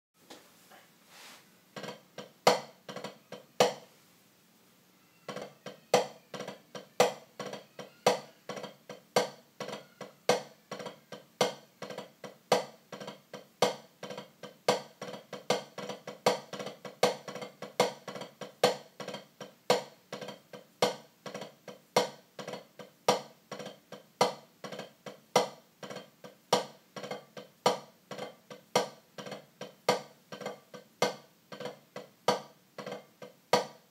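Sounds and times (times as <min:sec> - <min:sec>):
drumsticks on practice pad: 0:01.8 - 0:03.9, 0:05.3 - 0:33.9.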